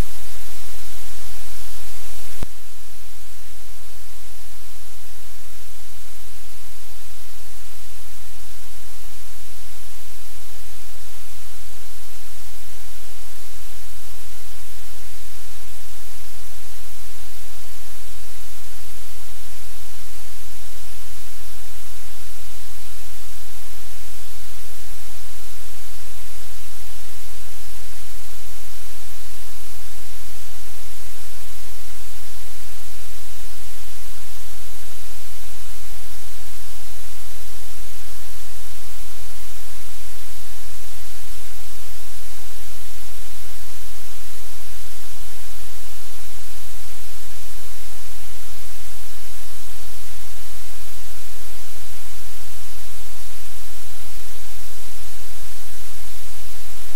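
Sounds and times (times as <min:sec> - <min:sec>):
low electrical hum: 0:00.0 - 0:56.9
static hiss: 0:00.0 - 0:56.9.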